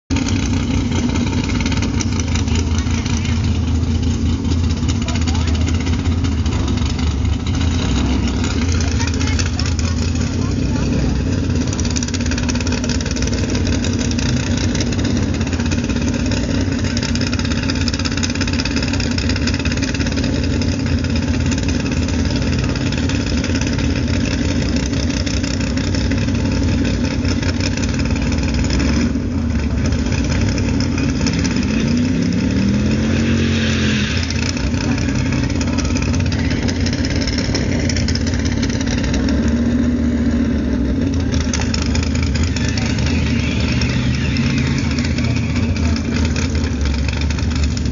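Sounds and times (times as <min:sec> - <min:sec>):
engine revving: 0:00.1 - 0:47.9
racing car engines idling: 0:00.1 - 0:47.9.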